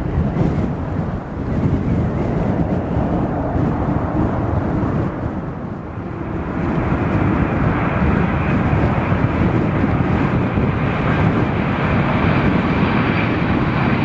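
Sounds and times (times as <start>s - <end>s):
airliner engines rumbling: 0.0s - 14.0s
wind buffeting microphone: 0.0s - 14.0s.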